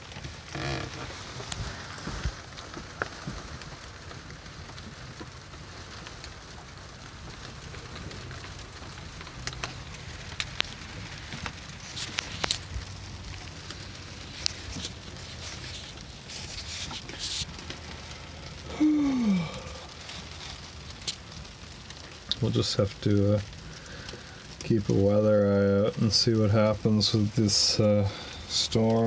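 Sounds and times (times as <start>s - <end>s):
rain pattering on cabin roof: 0.0s - 29.0s
sharp sleet ticks: 0.0s - 29.0s.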